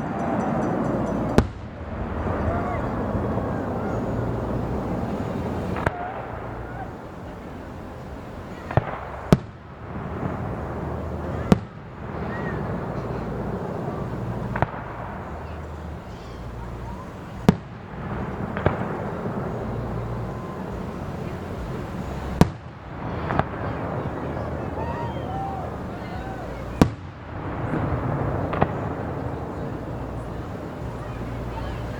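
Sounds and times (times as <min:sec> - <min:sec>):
background rumble: 0:00.0 - 0:31.9
firework bangs: 0:00.0 - 0:31.9.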